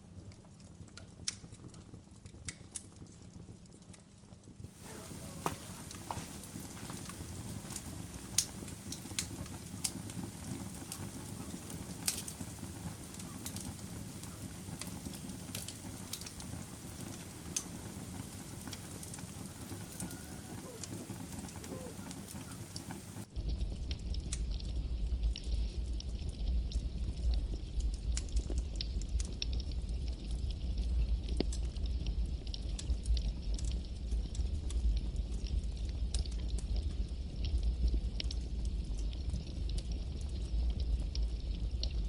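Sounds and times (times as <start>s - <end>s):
wood fire crackling: 0.1s - 42.0s.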